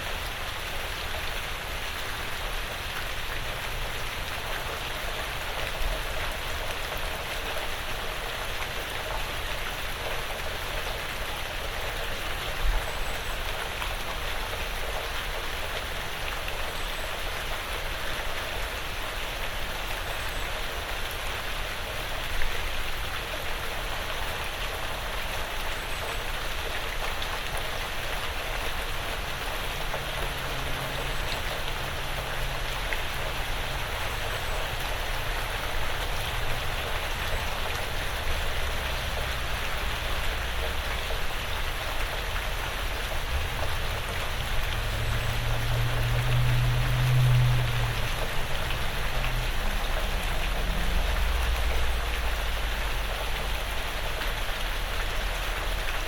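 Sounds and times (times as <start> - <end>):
loud water drips: 0.0 - 56.0
rain falling on a roof: 0.0 - 56.0.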